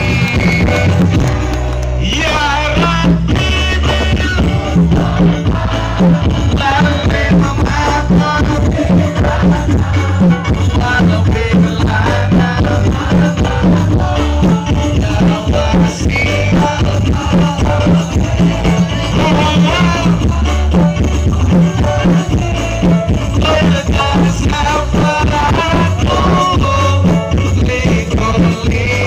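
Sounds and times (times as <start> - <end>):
live band song over pa: 0.0 - 29.0.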